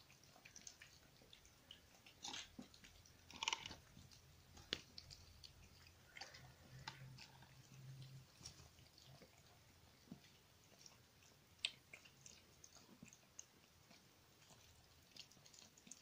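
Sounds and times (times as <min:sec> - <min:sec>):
kittens chewing: 0:00.0 - 0:16.0.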